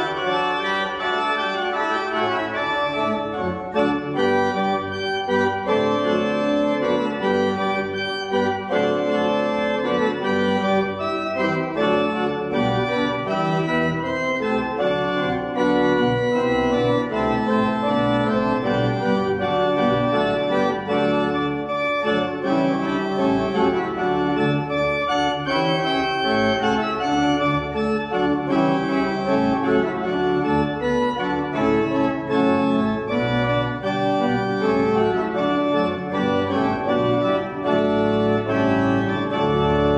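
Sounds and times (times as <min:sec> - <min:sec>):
church pipe organ chords: 0:00.0 - 0:39.9.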